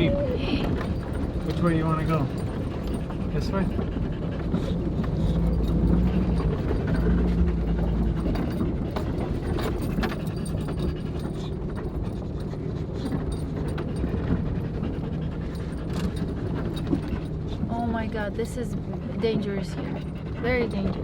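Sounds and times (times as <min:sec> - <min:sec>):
dog panting: 0:00.0 - 0:21.0
engine droning: 0:00.0 - 0:21.0
vehicle knocks and rattles: 0:00.4 - 0:21.0.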